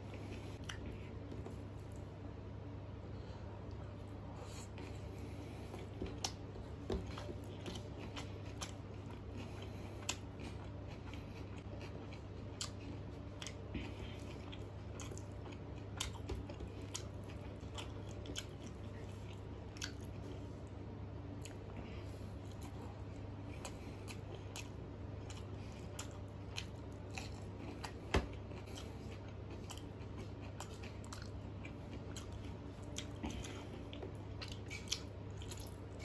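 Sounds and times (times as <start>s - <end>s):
person chewing food: 0.0s - 2.2s, 3.6s - 36.0s.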